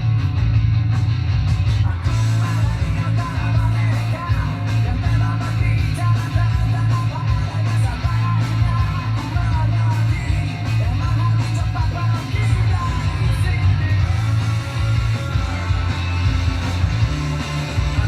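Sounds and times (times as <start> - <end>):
rock music with guitar: 0.0 - 18.0.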